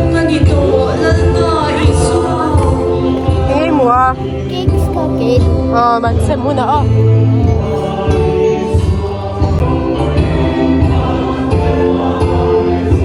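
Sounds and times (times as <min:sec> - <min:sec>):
gospel choir singing with accompaniment: 0:00.0 - 0:13.0.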